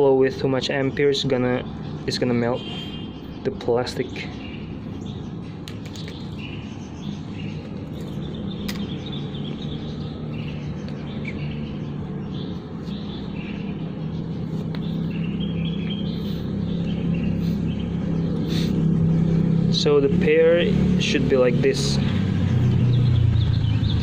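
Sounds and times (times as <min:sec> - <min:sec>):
birds chirping: 0:00.0 - 0:24.0
low engine hum: 0:04.6 - 0:24.0.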